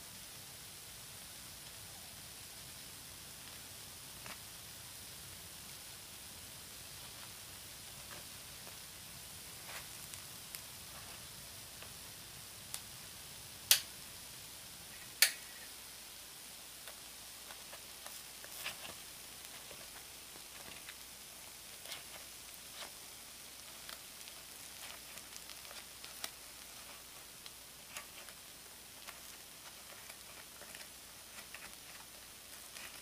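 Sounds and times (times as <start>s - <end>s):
food sizzling on a hot plate: 0.0s - 33.0s.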